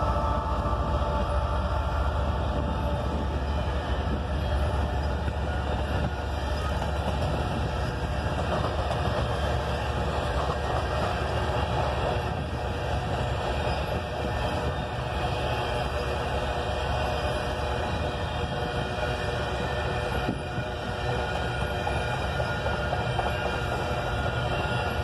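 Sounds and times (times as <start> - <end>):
freight train wheels on rails: 0.0 - 25.0.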